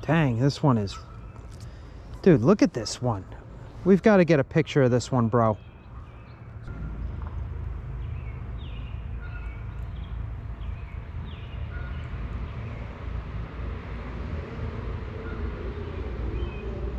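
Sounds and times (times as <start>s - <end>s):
low outdoor rumble: 0.0s - 16.9s.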